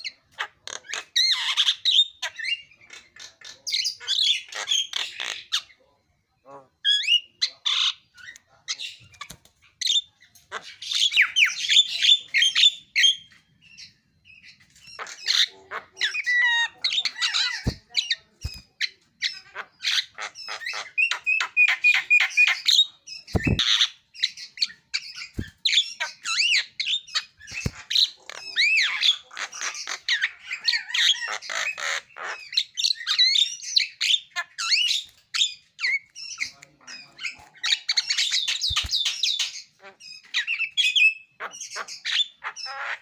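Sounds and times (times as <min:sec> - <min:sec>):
myna bird chattering calls: 0:06.9 - 0:43.0.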